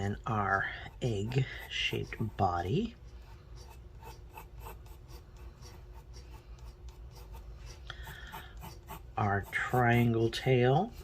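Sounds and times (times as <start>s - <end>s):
pencil sketching on paper: 0.0s - 11.0s.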